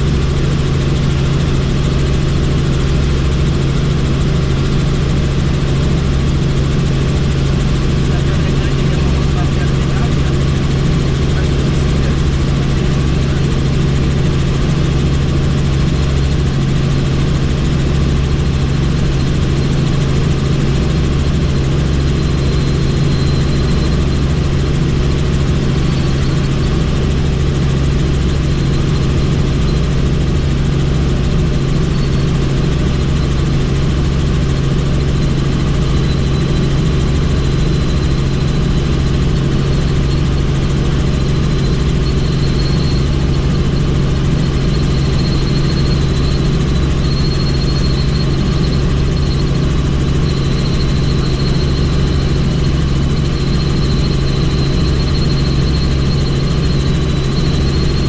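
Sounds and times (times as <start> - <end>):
helicopter turbine and rotors droning: 0.0 - 58.0.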